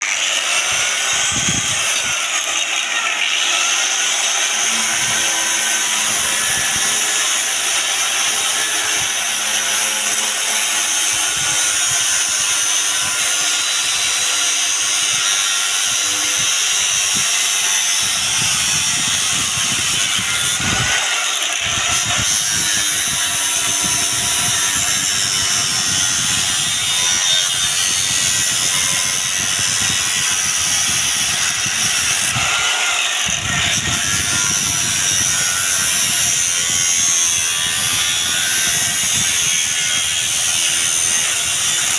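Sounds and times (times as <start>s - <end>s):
angle grinder high-pitched whirring: 0.0s - 41.9s
rough fuller grinding noise: 0.0s - 41.9s.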